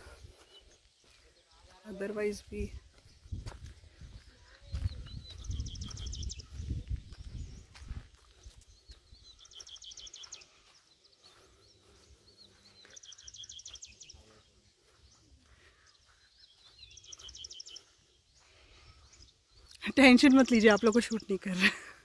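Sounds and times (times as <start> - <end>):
quiet outdoor background noise: 0.0 - 22.0.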